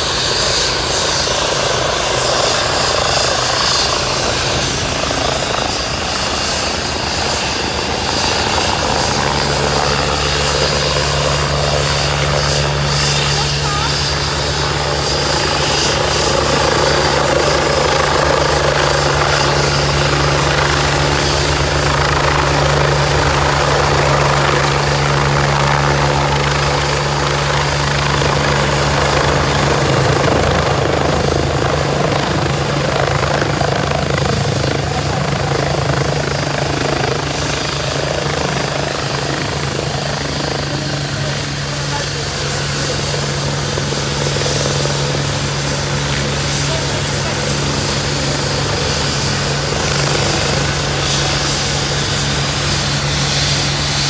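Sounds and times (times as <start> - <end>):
helicopter rotor beating: 0.0 - 54.0
helicopter turbines whining: 0.0 - 54.0.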